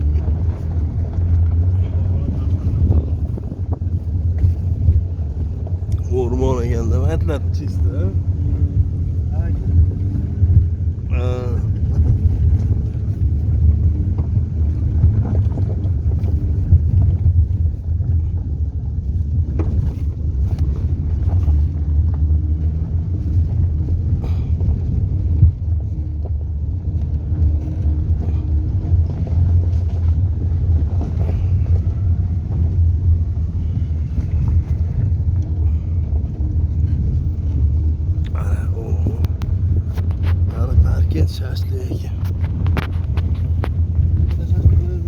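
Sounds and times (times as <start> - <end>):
faint hum: 0.0 - 45.0
low rumble: 0.0 - 45.0.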